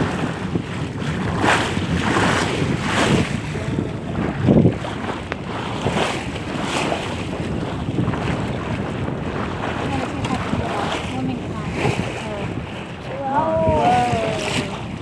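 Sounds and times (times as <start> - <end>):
water slapping boat hull: 0.0 - 15.0
wind buffeting microphone: 0.0 - 15.0.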